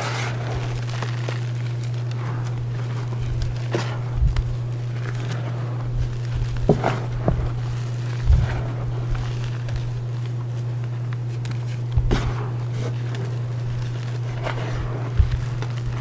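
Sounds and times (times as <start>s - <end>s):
hands crushing chalk: 0.0s - 16.0s
steady low hum: 0.0s - 16.0s.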